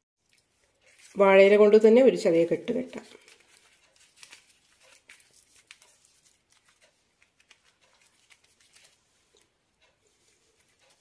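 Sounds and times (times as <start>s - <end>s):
leaf parcel rustling and crinkling: 0.2s - 9.5s.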